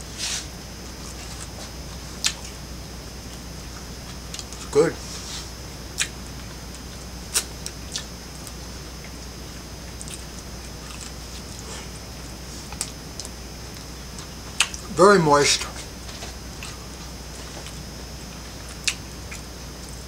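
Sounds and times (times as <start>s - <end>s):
faint steady hum: 0.0s - 20.0s
person chewing bread: 1.0s - 2.6s, 3.2s - 14.9s, 15.7s - 20.0s.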